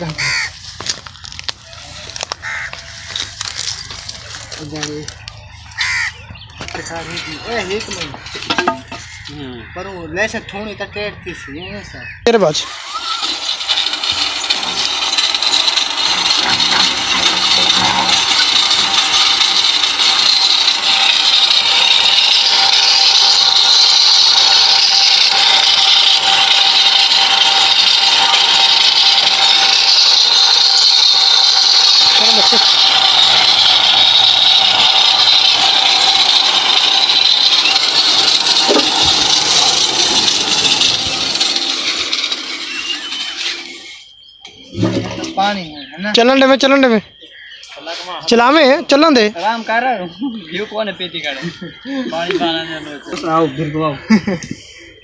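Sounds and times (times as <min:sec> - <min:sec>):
wheel and belt whirring: 0:00.0 - 0:11.2, 0:12.5 - 0:47.0.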